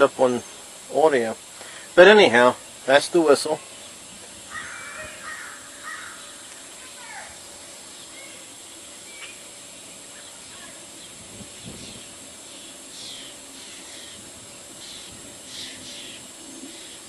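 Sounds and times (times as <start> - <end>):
birds chirping: 0.0 - 17.0
downward-sweeping bird calls: 0.0 - 17.0
steady high hiss: 0.0 - 17.0.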